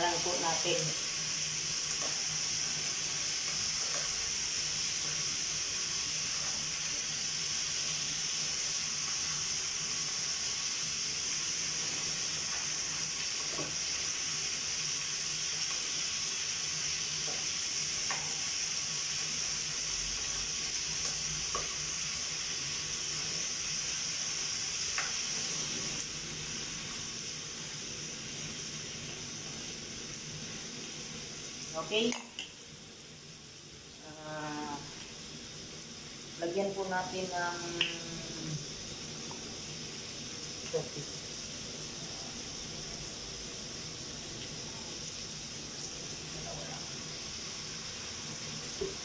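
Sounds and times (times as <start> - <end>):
potatoes sizzling in oil: 0.0 - 49.0.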